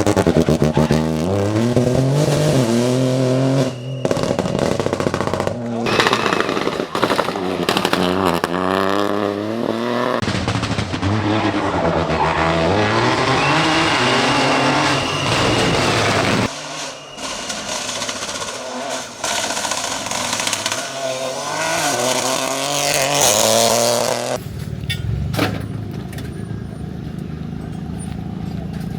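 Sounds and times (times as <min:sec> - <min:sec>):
rally car engine at full throttle: 0:00.0 - 0:28.9.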